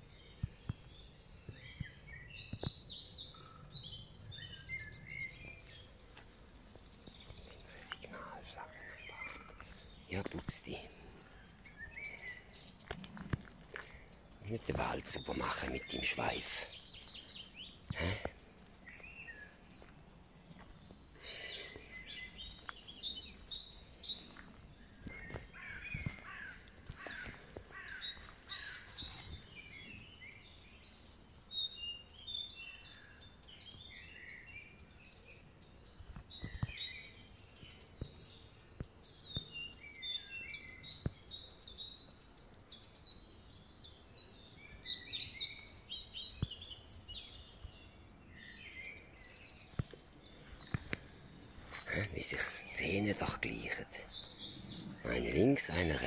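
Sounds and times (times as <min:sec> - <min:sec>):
small birds chirping and singing: 0:00.0 - 0:56.0.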